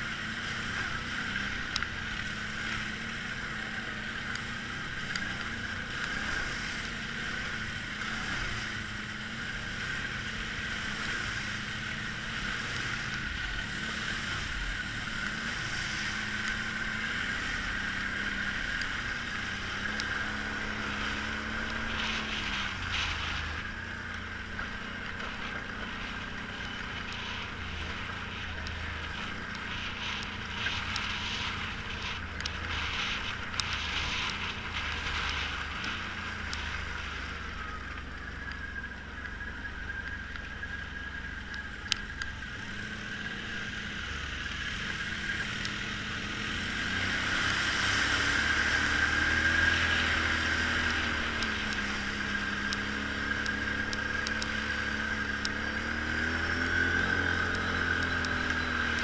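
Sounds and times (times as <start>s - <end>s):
atv engine running: 0.0s - 59.0s
steady high whine: 0.0s - 59.0s.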